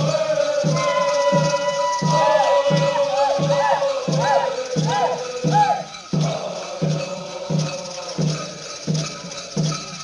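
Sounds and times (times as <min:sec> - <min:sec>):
low drum beat: 0:00.0 - 0:10.0.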